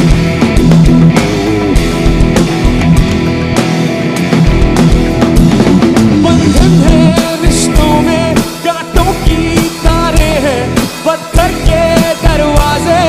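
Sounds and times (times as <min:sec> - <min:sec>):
bending lead guitar melody: 0:00.0 - 0:13.0
rock band playing live: 0:00.0 - 0:13.0.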